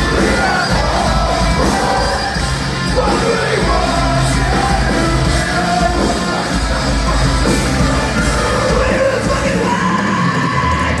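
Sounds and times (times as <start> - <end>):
metalcore band playing live: 0.0 - 11.0.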